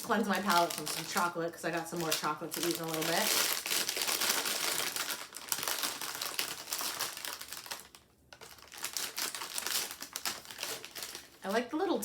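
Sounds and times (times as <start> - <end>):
plastic snack bag crinkling: 0.0 - 11.8.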